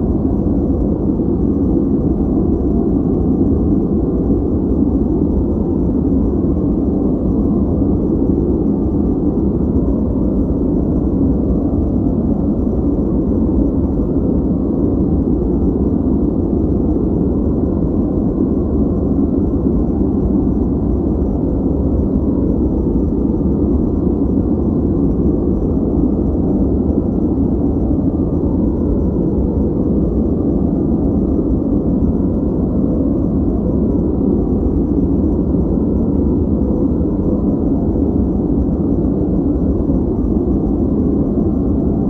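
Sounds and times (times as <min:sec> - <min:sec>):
low muffled rushing hiss: 0:00.0 - 0:42.0.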